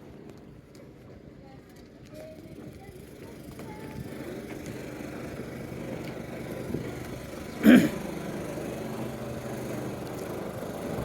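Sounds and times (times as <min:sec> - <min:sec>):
crowd walking and chatting: 0:00.0 - 0:11.0.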